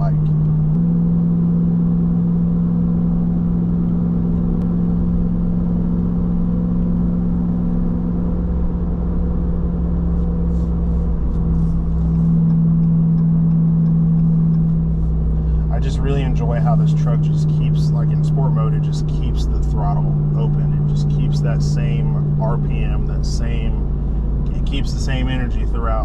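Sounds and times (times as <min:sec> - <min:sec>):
road rumble: 0:00.0 - 0:26.0
truck engine droning: 0:00.0 - 0:26.0.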